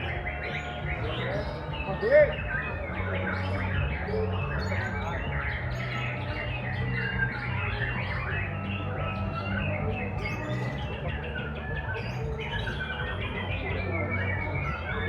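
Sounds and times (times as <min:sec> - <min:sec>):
songbirds whistling and chirping: 0:00.0 - 0:15.0.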